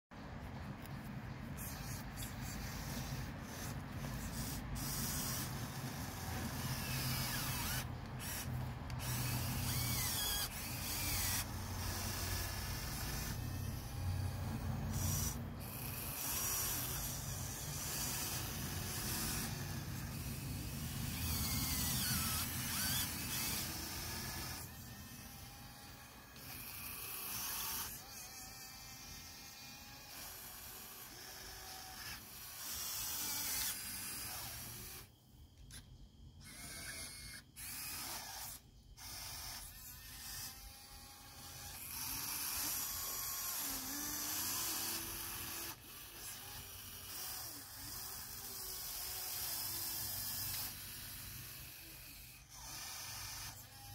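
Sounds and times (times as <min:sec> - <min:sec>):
electric motors and gears whining: 0:00.1 - 0:53.9.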